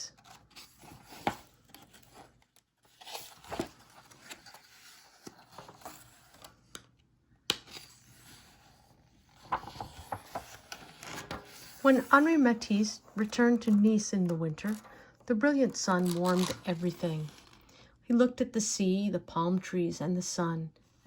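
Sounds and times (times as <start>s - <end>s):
paper pages rustling: 0.1s - 6.9s, 7.6s - 17.7s.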